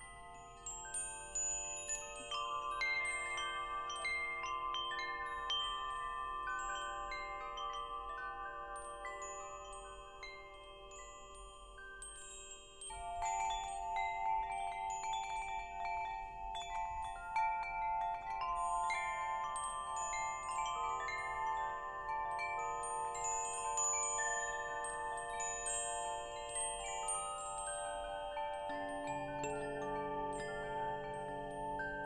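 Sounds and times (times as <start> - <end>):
wind chimes ringing: 0.0 - 32.0.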